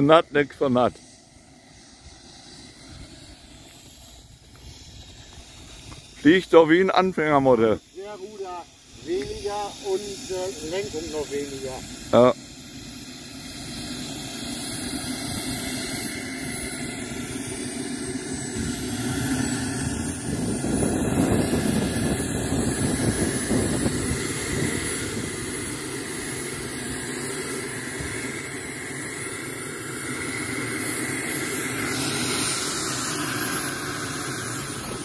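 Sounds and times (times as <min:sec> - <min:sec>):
jet turbine whine: 0:00.0 - 0:35.0
rushing exhaust noise: 0:00.0 - 0:35.0.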